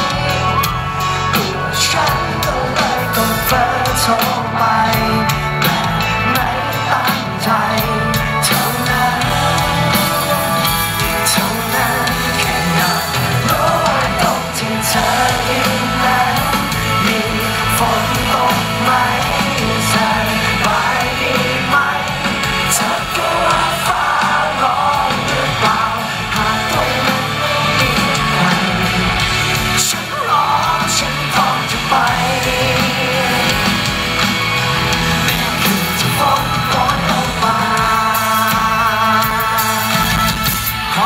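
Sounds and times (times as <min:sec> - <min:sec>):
man singing into microphone: 0:00.0 - 0:34.2, 0:35.1 - 0:41.0
electric guitar: 0:00.0 - 0:41.0
live band playing: 0:00.0 - 0:41.0.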